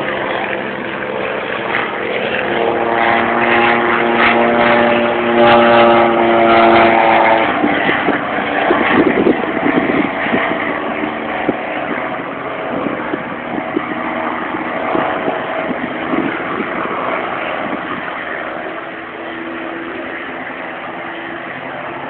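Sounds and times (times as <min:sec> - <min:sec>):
distant propeller aircraft droning: 0:00.0 - 0:22.0.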